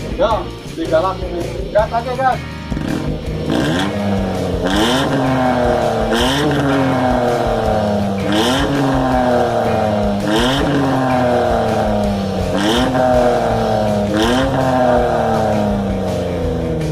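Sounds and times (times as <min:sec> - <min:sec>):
car engine revving through sport exhaust: 0:01.6 - 0:16.9.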